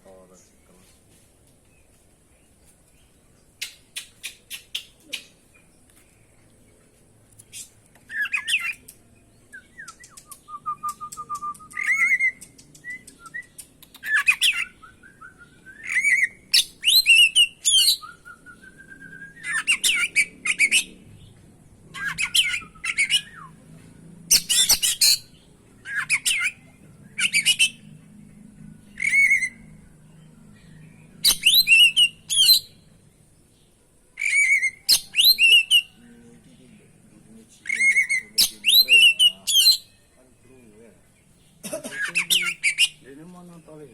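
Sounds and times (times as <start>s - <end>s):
bird singing: 1.6s - 43.9s.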